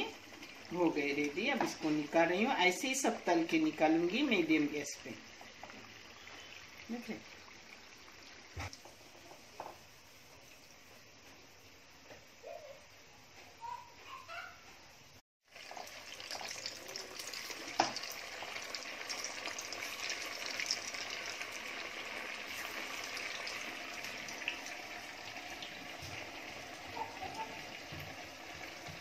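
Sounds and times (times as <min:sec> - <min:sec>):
deep-frying sizzle in oil: 0:00.0 - 0:12.0, 0:15.4 - 0:29.0.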